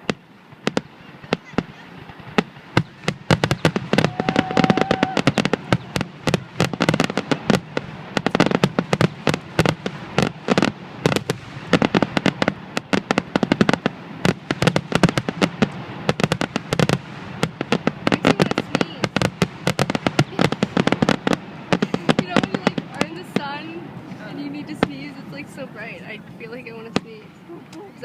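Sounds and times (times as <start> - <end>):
fireworks bangs and cracks: 0.0 - 28.0.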